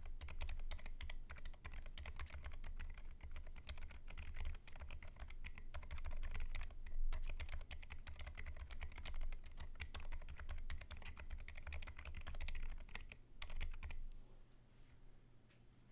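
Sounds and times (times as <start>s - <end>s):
fast typing on mechanical keyboard: 0.0s - 14.0s.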